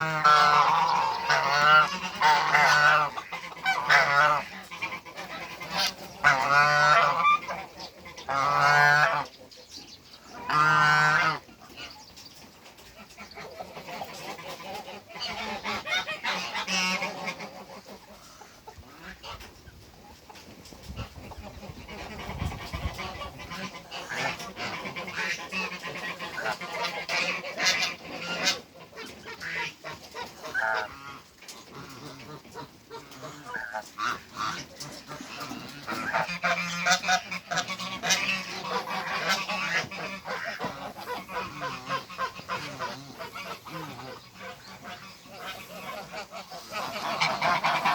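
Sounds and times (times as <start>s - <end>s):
geese honking: 0.0s - 12.2s, 12.8s - 47.9s.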